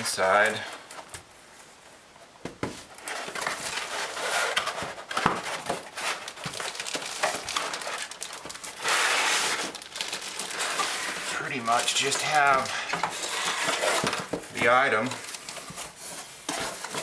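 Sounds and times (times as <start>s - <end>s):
cardboard rustling and crinkling: 0.0s - 17.0s.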